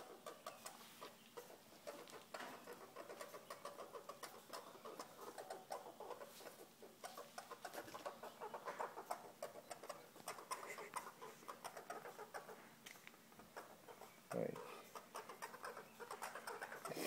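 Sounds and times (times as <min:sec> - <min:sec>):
squirrels squeaking: 0:00.0 - 0:17.0.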